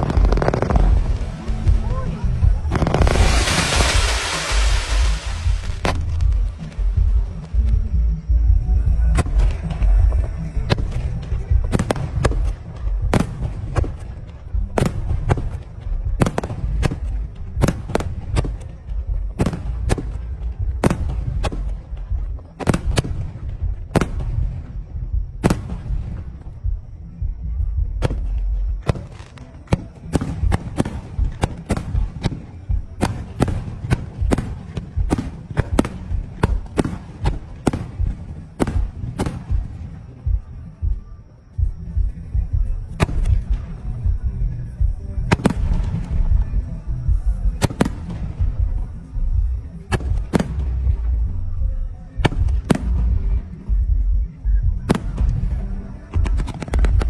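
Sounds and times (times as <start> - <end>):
fireworks bursting: 0.0 - 7.9, 9.0 - 27.0, 28.0 - 40.8, 42.8 - 44.1, 45.2 - 51.3, 52.2 - 53.9, 54.8 - 57.0
low rumble: 0.0 - 28.9, 30.4 - 57.0.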